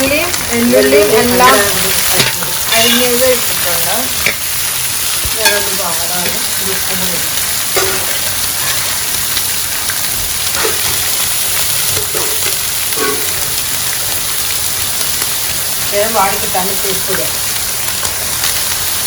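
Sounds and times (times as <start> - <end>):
stirring in a pan: 0.0 - 19.0
vegetables sizzling in hot oil: 0.0 - 19.0.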